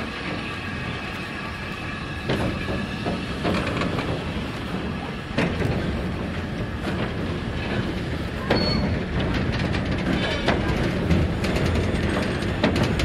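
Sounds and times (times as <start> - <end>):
low train rumble: 0.0 - 13.0
train wheels knocking over rail joints: 2.0 - 13.0.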